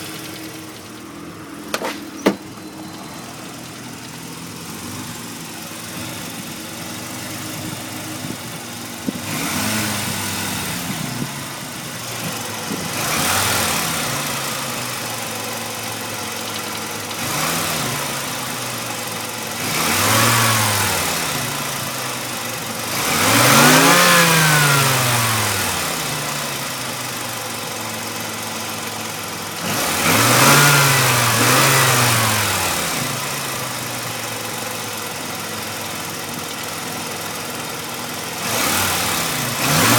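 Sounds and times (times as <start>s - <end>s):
engine knock: 0.0s - 39.9s
rotary engine idling and revving: 0.0s - 39.9s.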